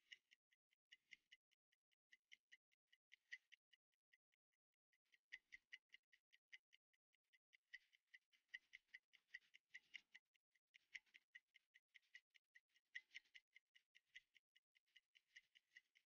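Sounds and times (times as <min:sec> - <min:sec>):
fast timer ticking: 0:00.0 - 0:16.0.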